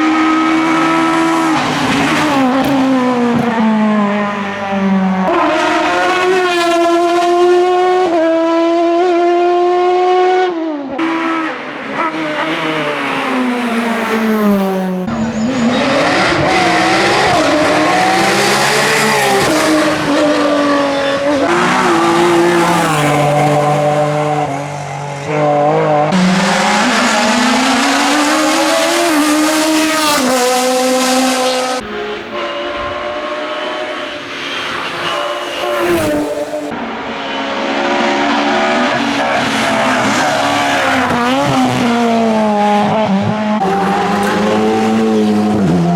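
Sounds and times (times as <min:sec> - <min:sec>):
race car engines revving high: 0:00.0 - 0:45.9.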